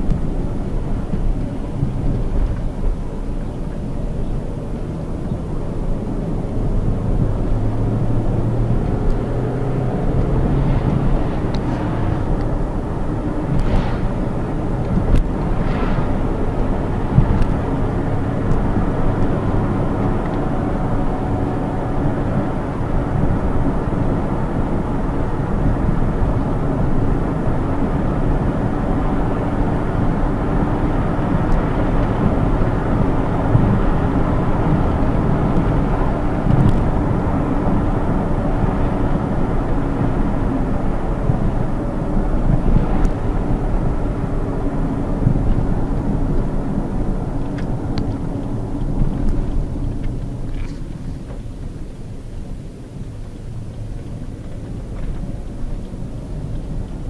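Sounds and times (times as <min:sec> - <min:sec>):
car engine from inside cabin: 0:00.0 - 0:57.0
tyre and road rumble: 0:00.0 - 0:57.0.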